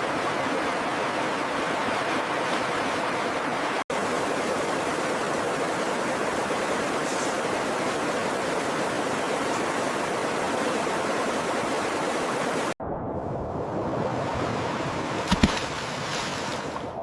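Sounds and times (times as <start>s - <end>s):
flowing water rushing: 0.0s - 12.8s, 14.0s - 17.0s
muffled water rush: 0.0s - 17.0s.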